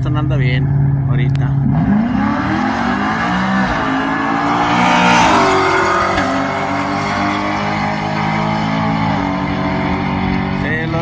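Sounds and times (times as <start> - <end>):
racing car engines accelerating: 0.7 - 11.0
engines shifting up through gears: 1.3 - 10.6.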